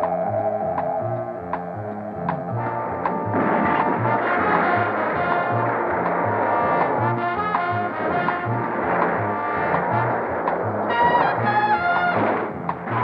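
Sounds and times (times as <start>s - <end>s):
low pulse: 0.0s - 13.0s
orchestral cartoon music with brass: 1.0s - 13.0s.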